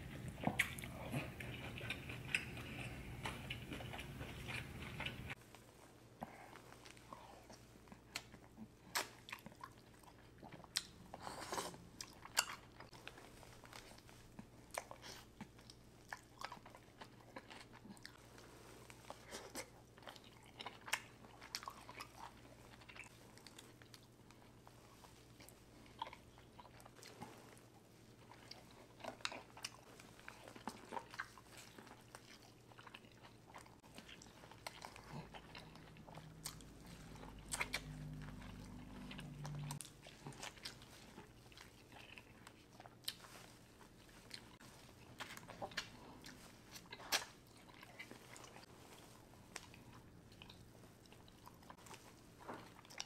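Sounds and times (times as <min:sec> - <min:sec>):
wet chewing and lip smacks: 0:00.0 - 0:05.4, 0:06.6 - 0:53.0.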